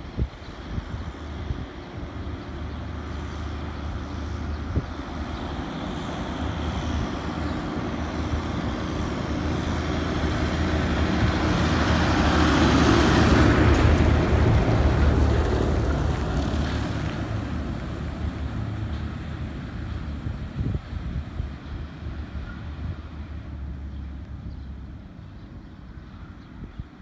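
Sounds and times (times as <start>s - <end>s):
tractor engine approaching: 0.0s - 26.8s.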